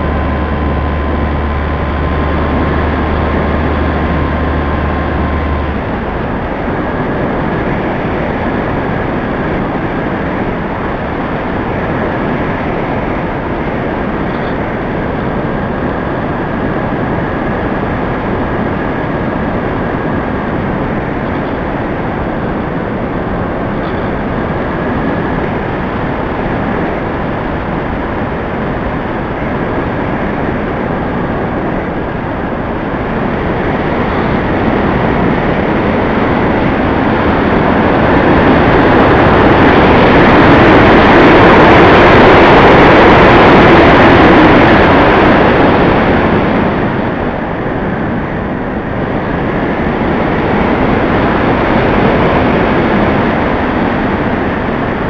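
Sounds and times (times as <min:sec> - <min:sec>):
aircraft motor noise: 0:00.0 - 0:55.0
rushing wind: 0:00.0 - 0:55.0.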